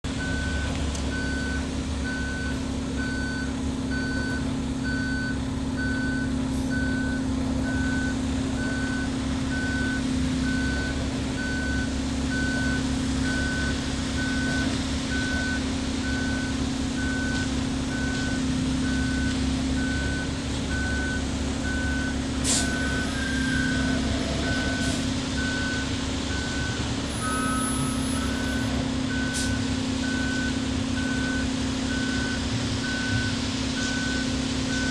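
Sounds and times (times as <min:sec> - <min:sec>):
diesel engine running: 0:00.0 - 0:34.9
truck backup alarm beeping: 0:00.1 - 0:34.9.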